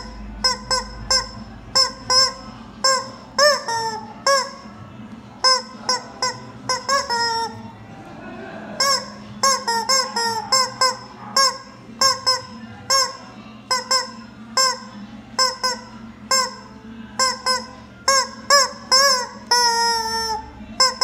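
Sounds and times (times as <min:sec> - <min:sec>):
rubber chicken toy squawking: 0:00.0 - 0:04.7, 0:05.4 - 0:07.7, 0:08.8 - 0:21.0.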